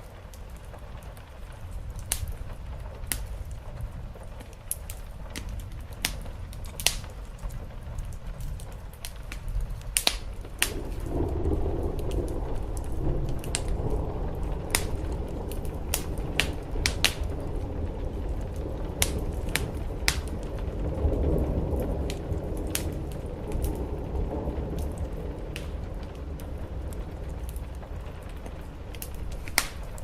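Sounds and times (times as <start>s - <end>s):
rain: 0.0s - 30.0s
wood fire crackling and popping: 0.0s - 30.0s.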